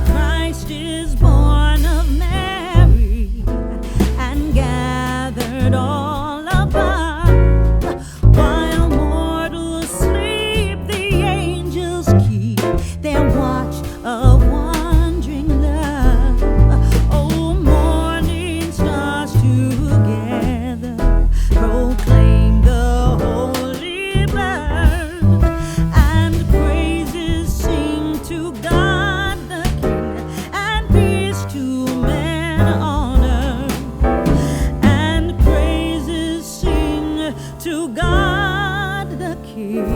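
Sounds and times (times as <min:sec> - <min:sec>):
soul song with vocals: 0:00.0 - 0:39.9.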